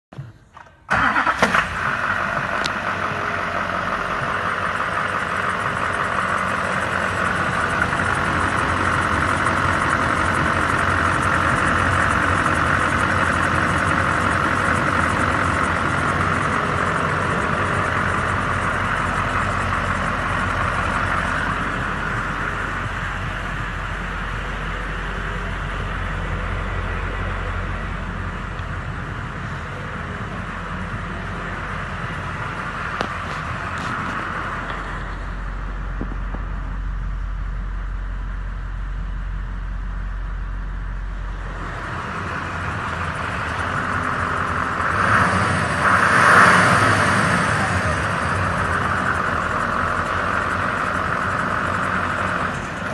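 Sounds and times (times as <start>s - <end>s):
diesel engine idling: 0.1s - 52.9s.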